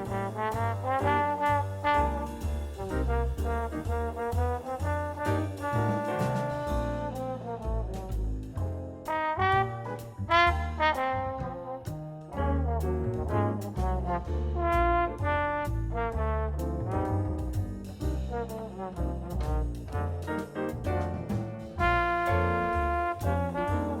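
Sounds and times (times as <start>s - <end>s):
upbeat music with brass horns: 0.0s - 24.0s.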